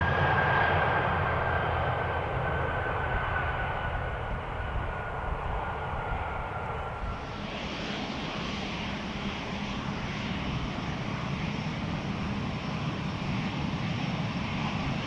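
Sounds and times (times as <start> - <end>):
jet airliner engines: 0.0 - 15.0.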